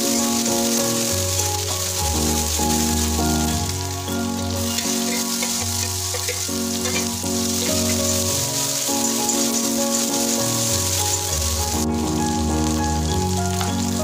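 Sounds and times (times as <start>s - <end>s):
background music with held notes: 0.0s - 14.0s
vegetables sizzling in hot oil: 0.0s - 14.0s.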